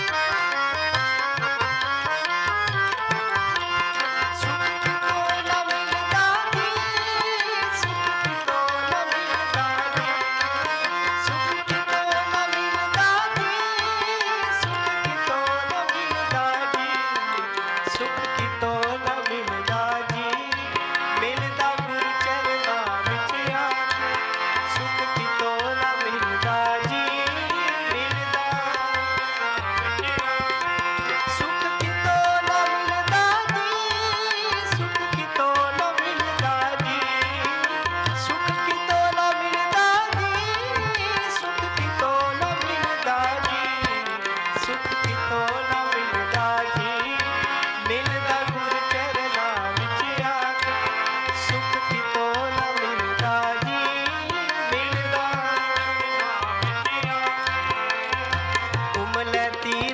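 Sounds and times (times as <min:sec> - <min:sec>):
harmonium chords: 0:00.0 - 0:59.9
tabla rhythm: 0:00.0 - 0:59.9.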